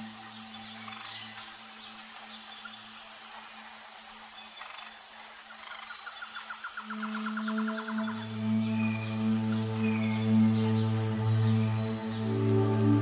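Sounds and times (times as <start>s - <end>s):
high-pitched insect chorus: 0.0s - 13.0s
low sustained music tone: 0.0s - 13.0s.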